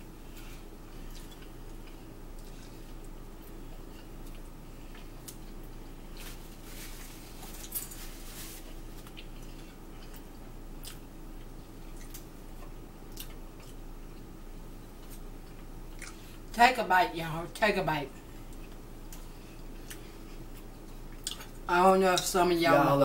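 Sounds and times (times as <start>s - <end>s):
faint hum: 0.0s - 23.0s
person chewing sandwich: 0.3s - 16.4s, 18.4s - 21.6s.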